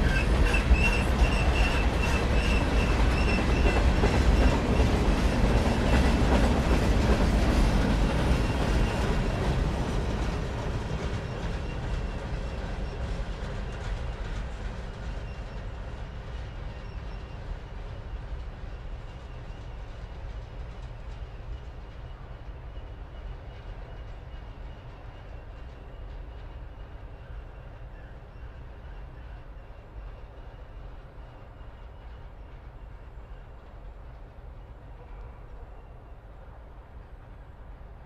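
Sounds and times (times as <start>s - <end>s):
freight train rumbling: 0.0s - 38.0s.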